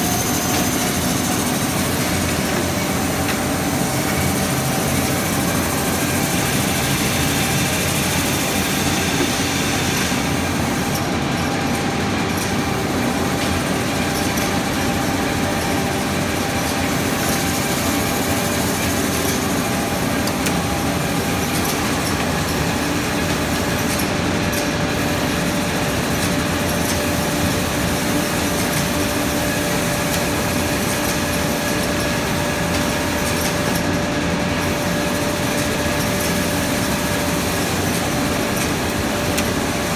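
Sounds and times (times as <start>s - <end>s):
production line machinery running: 0.0s - 39.9s.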